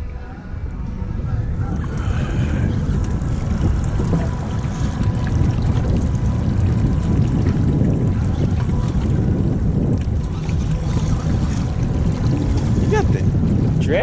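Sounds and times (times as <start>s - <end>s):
wind rumbling on microphone: 0.0s - 14.0s
water lapping against boat hull: 1.6s - 14.0s.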